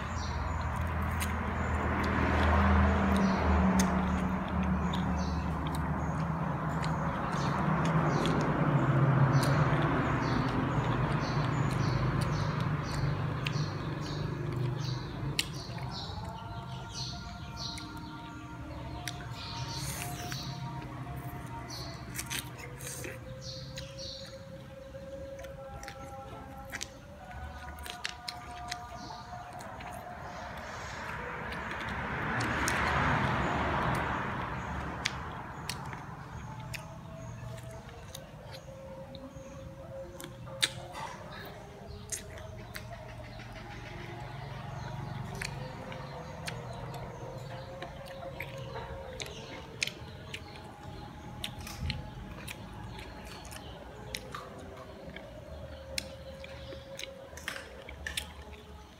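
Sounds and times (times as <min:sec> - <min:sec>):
chewing and lip-smacking: 0:00.0 - 0:58.9
small birds chirping: 0:00.0 - 0:58.9.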